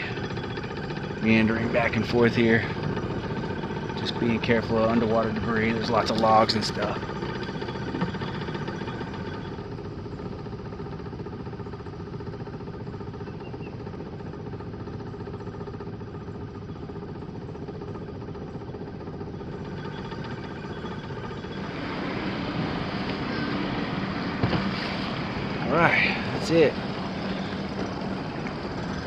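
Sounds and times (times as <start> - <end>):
motorboat engine humming: 0.0 - 29.0.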